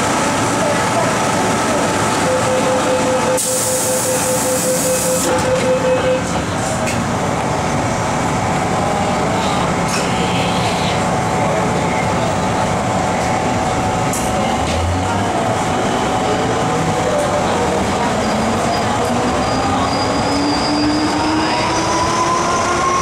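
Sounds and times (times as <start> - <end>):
train running noise: 0.0 - 23.0.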